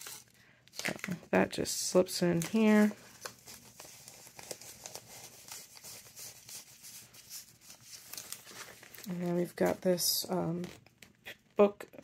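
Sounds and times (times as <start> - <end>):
paper rustling and crinkling: 0.0 - 1.4, 2.0 - 11.2.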